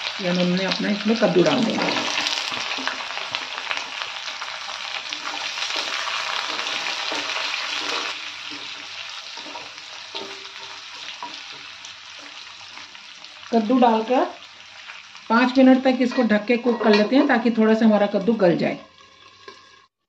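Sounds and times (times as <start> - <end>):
vegetables sizzling in hot oil: 0.0 - 19.9.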